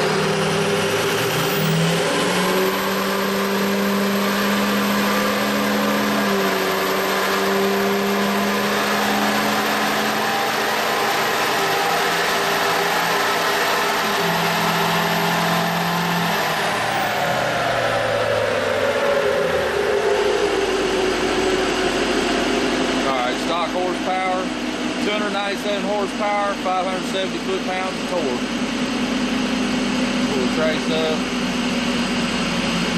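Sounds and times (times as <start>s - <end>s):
diesel engine at full throttle: 0.0s - 32.9s.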